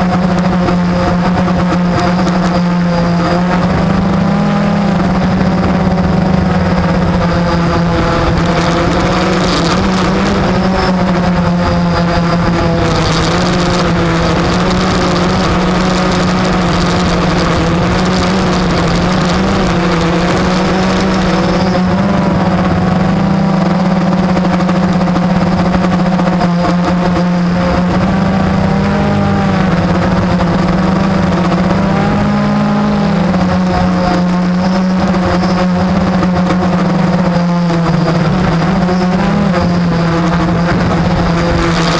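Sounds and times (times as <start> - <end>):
quadcopter motors humming: 0.0 - 41.9.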